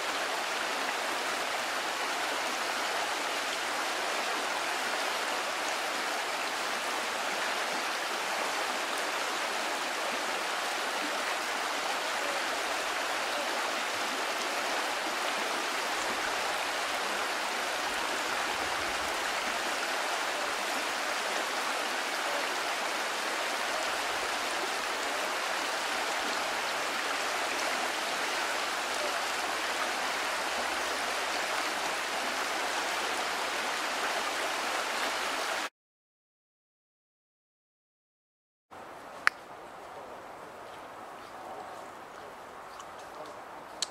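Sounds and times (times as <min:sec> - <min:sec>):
river rushing over rocks: 0:00.0 - 0:35.7.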